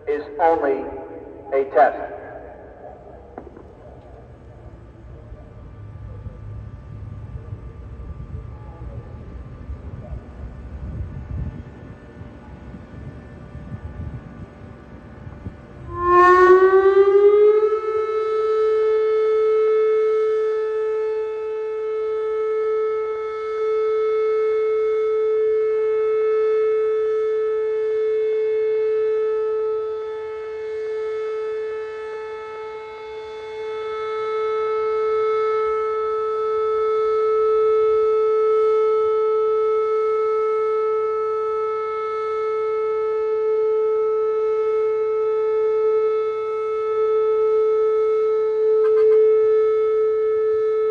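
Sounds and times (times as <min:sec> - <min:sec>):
electronic warning siren: 0:00.0 - 0:50.9.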